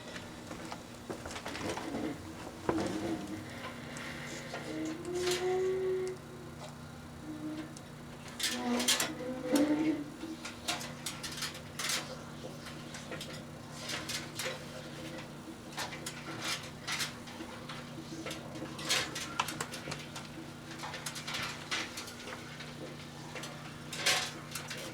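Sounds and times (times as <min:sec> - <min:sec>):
microwave ovens humming: 0:00.0 - 0:24.9.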